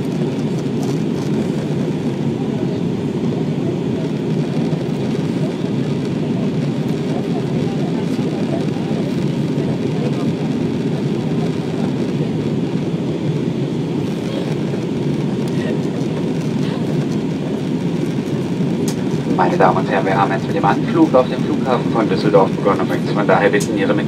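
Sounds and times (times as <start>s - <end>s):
jet airliner cabin rush: 0.0s - 24.0s.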